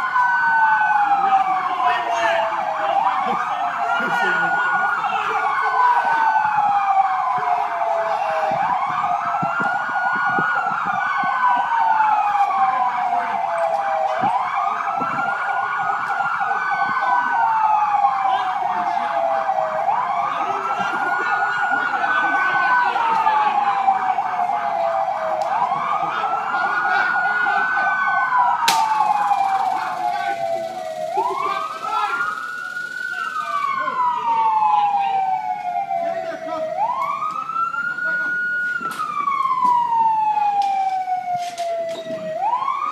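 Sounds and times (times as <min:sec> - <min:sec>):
emergency sirens wailing: 0:00.0 - 0:42.9
warbling siren: 0:00.0 - 0:42.9.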